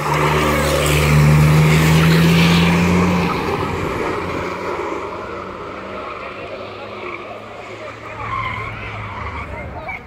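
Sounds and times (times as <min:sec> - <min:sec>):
racing car engine passing: 0:00.0 - 0:10.0.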